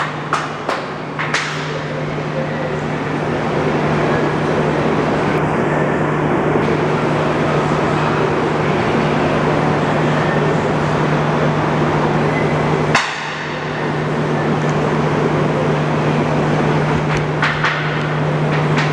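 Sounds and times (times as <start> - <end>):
bandsaw motor hum: 0.0 - 18.9.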